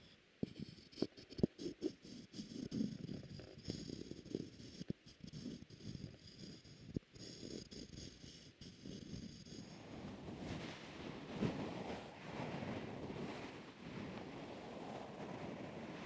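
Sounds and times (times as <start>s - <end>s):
close rustling and scratching: 0.4s - 16.0s.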